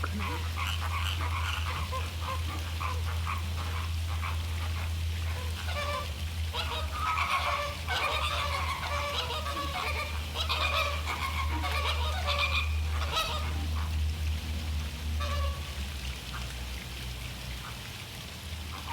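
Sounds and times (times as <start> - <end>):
flamingos honking: 0.0 - 14.1, 15.1 - 16.6, 18.7 - 18.9.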